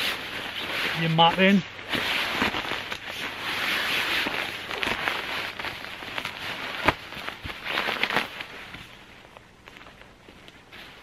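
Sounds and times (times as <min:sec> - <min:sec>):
nylon fabric rustling: 0:00.0 - 0:11.0.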